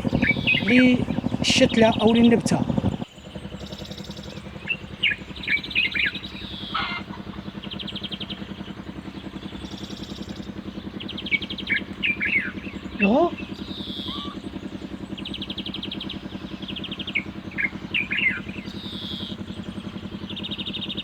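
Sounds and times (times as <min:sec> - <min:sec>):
low motor hum: 0:00.0 - 0:21.0
small birds chirping: 0:00.0 - 0:21.0.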